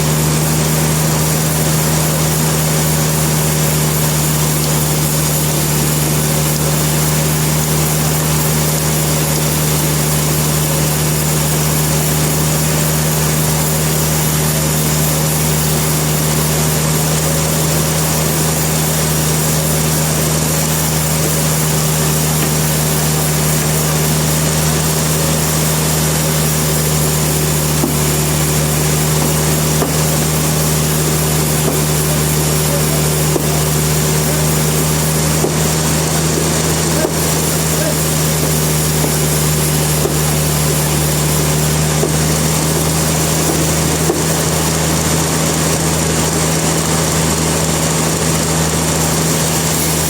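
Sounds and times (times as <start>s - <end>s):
sawmill machinery humming: 0.0s - 50.0s.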